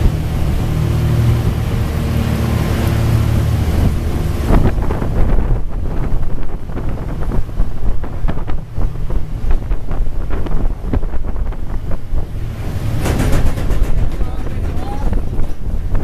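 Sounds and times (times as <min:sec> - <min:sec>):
engine and deck machinery rumbling: 0:00.0 - 0:16.0
rush of noise: 0:00.0 - 0:16.0
wind on microphone: 0:00.0 - 0:16.0.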